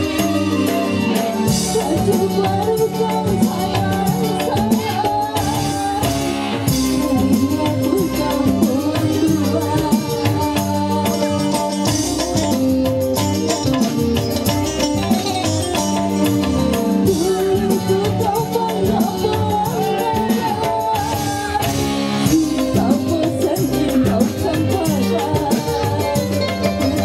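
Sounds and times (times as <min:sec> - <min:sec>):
electric guitar: 0:00.0 - 0:27.0
keyboard: 0:00.0 - 0:27.0
percussion rhythm: 0:00.0 - 0:27.0
woman singing: 0:00.0 - 0:27.0.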